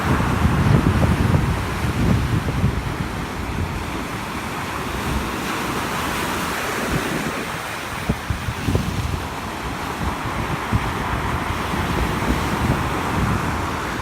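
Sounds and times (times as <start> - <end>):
storm surf breaking: 0.0 - 14.0
wind buffeting microphone: 0.0 - 14.0.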